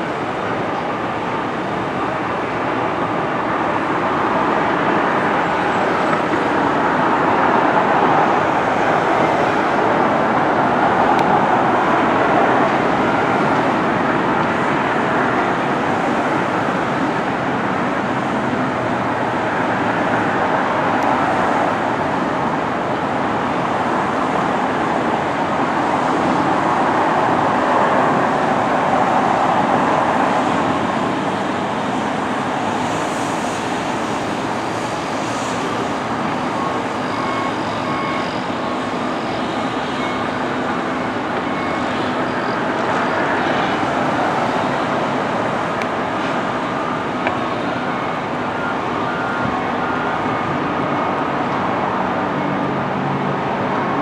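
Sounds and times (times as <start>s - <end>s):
rushing of moving vehicles: 0.0s - 54.0s.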